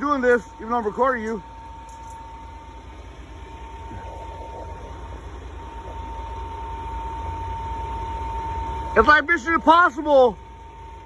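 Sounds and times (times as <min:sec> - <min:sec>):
low mechanical rumble: 0:00.0 - 0:11.0
thin steady whine: 0:00.0 - 0:11.0.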